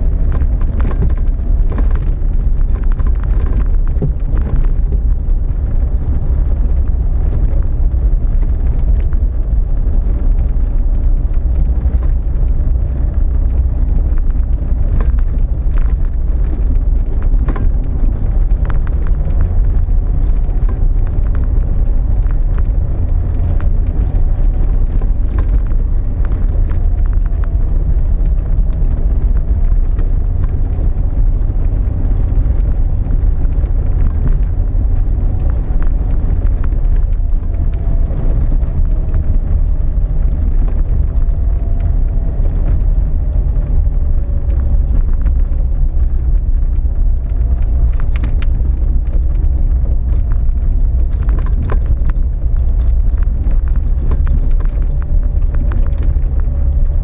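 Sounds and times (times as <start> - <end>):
sharp clicks and rattles: 0.0 - 57.0
tyres on rough track: 0.0 - 57.0
vehicle engine rumble in cabin: 0.0 - 57.0.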